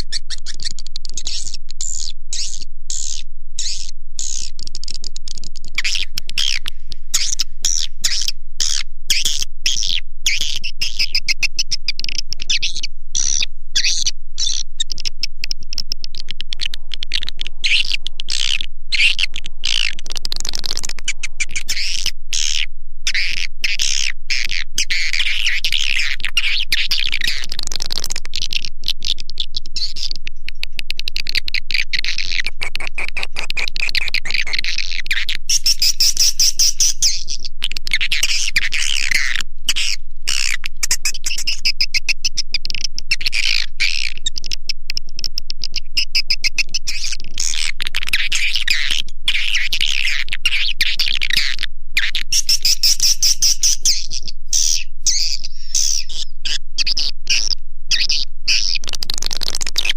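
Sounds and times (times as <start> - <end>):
swiftlet twittering chatter: 0.0 - 59.9.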